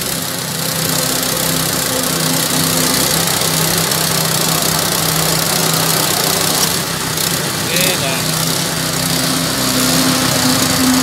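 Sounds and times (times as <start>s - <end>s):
water pump engines running: 0.0s - 11.0s.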